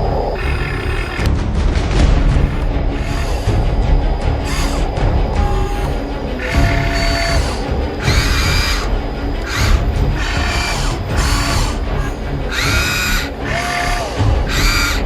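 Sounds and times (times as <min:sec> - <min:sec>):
toy electric motors whining: 0:00.0 - 0:01.3, 0:02.2 - 0:15.0
background music: 0:00.0 - 0:15.0.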